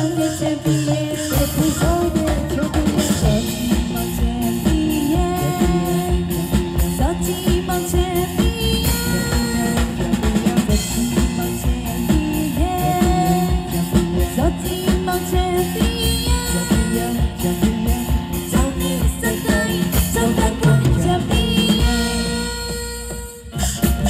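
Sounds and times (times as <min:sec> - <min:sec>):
person singing: 0:00.0 - 0:22.7
music with drumbeat: 0:00.0 - 0:24.0.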